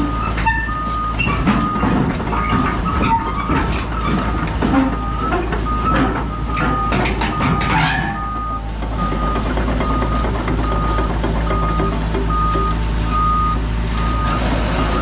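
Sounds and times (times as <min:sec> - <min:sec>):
excavator engine drone: 0:00.0 - 0:15.0.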